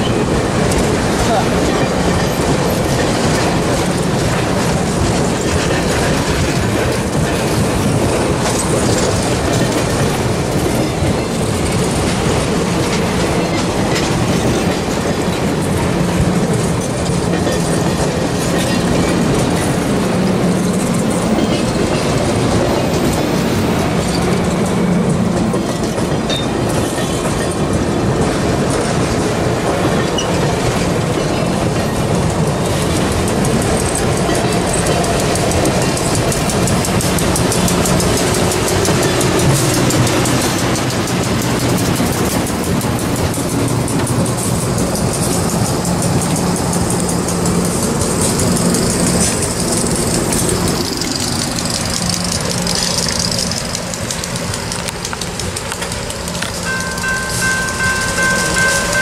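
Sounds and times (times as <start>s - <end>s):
clickety-clack over rail joints: 0.0s - 59.0s
train wheels rumbling on rails: 0.0s - 59.0s.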